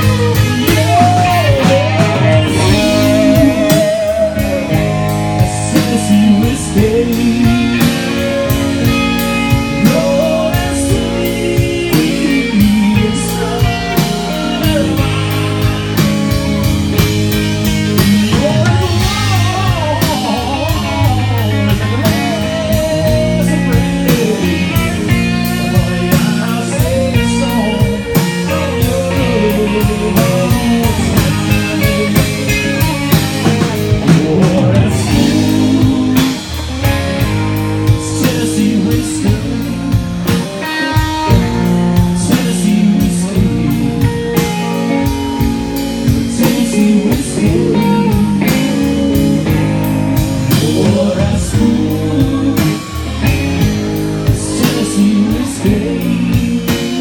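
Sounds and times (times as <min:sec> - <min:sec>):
bass guitar: 0:00.0 - 0:57.0
drum kit: 0:00.0 - 0:57.0
electric guitar lead: 0:00.0 - 0:57.0
rhythm guitar: 0:00.0 - 0:57.0.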